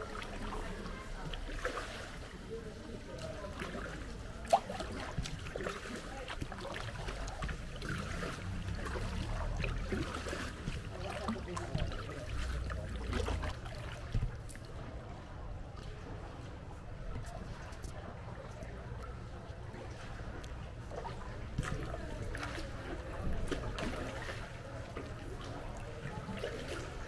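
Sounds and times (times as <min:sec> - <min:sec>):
water splashing off paddles: 0:00.0 - 0:15.0, 0:19.8 - 0:27.0.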